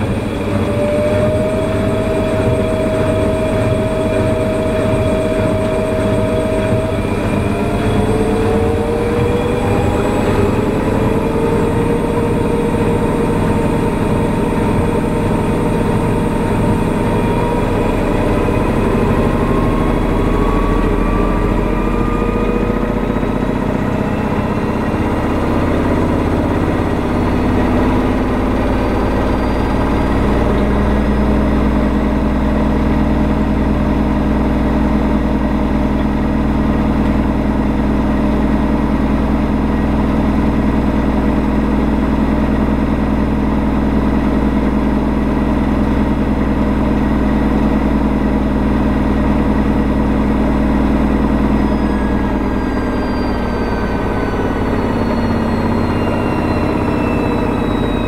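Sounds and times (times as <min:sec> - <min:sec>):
slow regular throb: 0:00.0 - 0:58.0
washing machine spin whine: 0:00.0 - 0:58.0.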